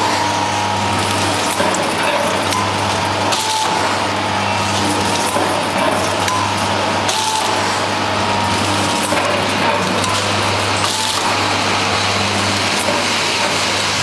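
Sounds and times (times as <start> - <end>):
packaging machine whirring: 0.0 - 14.0.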